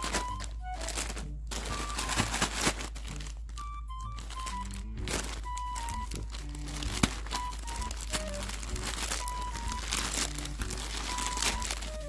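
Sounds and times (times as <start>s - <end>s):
light plucked background music: 0.0s - 12.0s
plastic bag crinkling: 0.0s - 12.0s.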